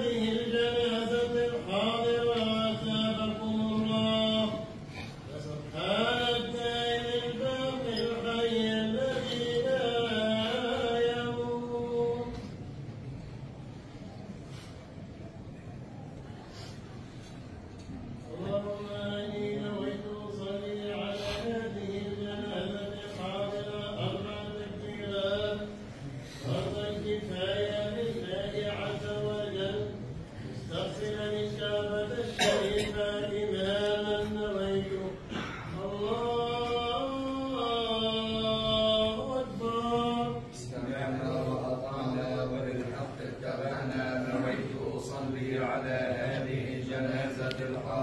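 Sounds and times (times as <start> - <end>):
man chanting: 0.0 - 12.6, 18.2 - 48.0.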